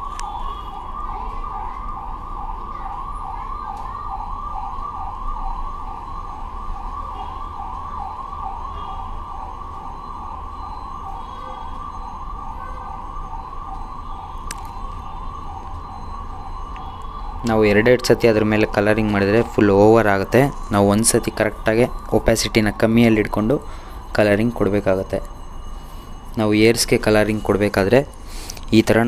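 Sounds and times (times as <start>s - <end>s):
siren rising sweeps: 0.0s - 29.0s.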